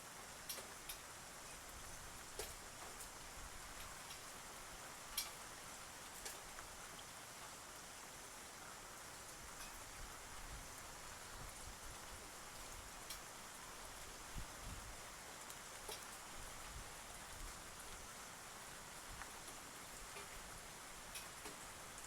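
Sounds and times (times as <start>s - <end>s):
soft hiss: 0.0s - 22.0s.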